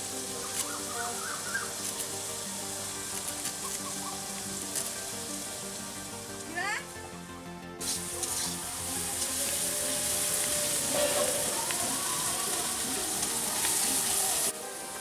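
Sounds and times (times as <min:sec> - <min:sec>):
faint music: 0:00.0 - 0:15.0
steady hiss: 0:00.0 - 0:15.0.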